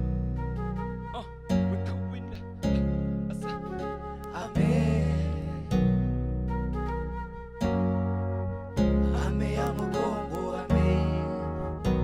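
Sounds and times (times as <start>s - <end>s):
steady bass: 0.0s - 12.0s.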